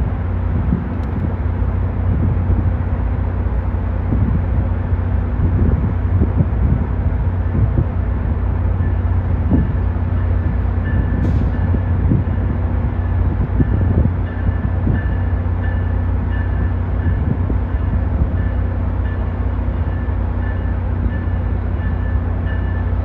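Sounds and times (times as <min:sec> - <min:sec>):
diesel locomotive engine humming: 0:00.0 - 0:23.0.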